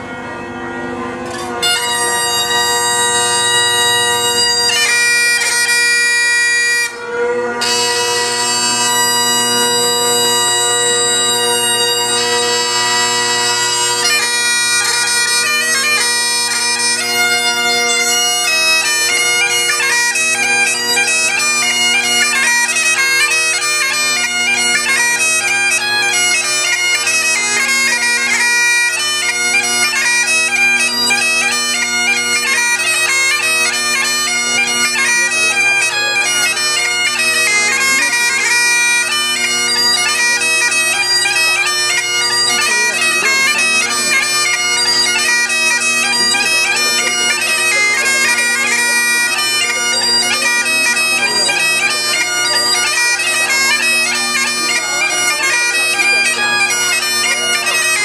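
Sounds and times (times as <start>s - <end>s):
bagpipe drones: 0.0s - 58.0s
bagpipe melody: 0.0s - 58.0s.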